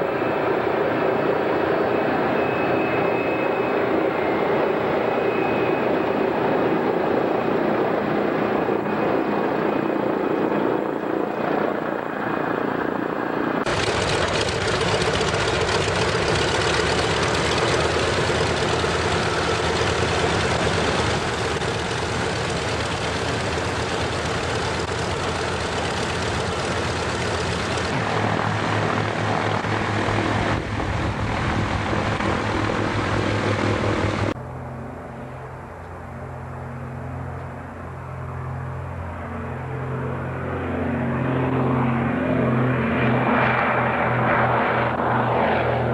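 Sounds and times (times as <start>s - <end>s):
propeller aircraft engines running: 0.0s - 45.9s.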